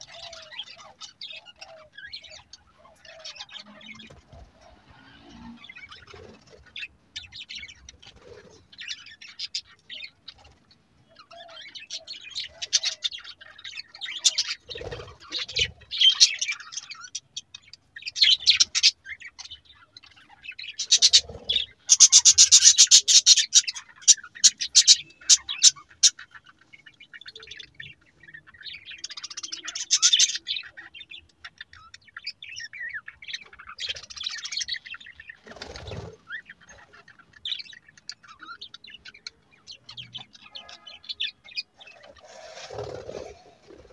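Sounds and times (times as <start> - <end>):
budgerigars chirping: 0.0 - 43.9.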